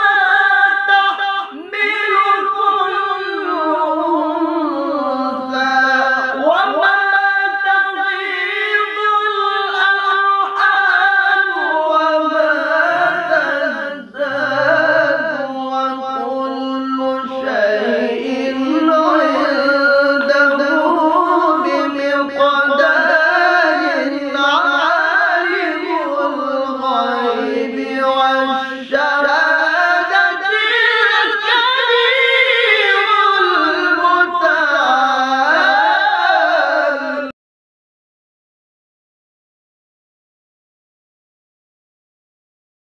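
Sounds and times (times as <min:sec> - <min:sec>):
men singing melismatic recitation: 0:00.0 - 0:37.4.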